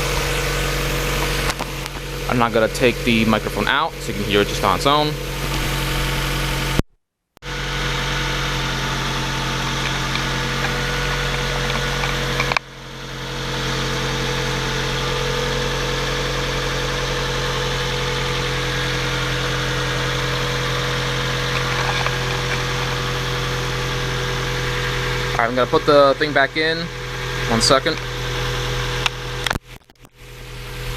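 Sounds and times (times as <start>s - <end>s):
car engine idling: 0.0s - 6.8s, 7.4s - 30.9s.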